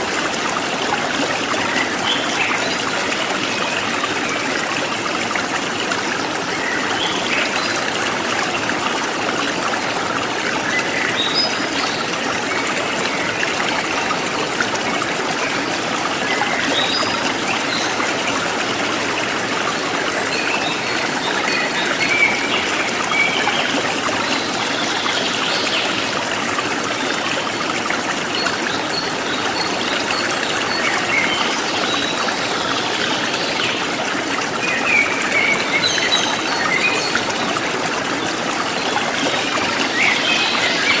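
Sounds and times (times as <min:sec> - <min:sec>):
stream flowing: 0:00.0 - 0:41.0.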